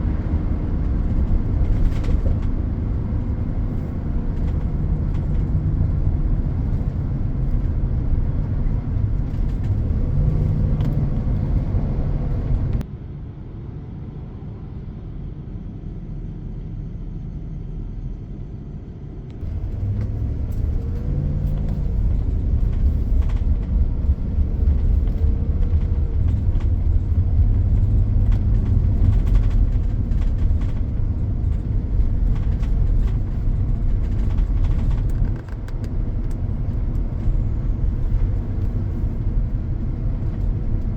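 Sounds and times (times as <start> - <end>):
road traffic rumble: 0.0 - 40.9.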